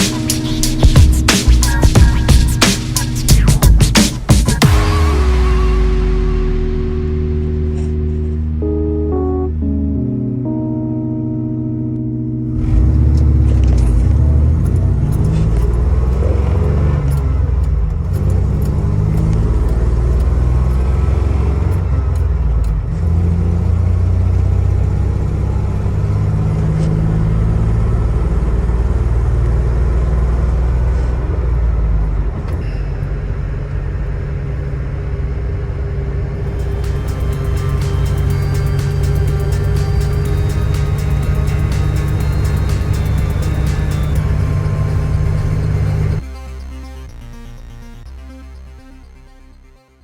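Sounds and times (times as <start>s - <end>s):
truck engine running: 0.0s - 9.8s, 12.4s - 48.3s.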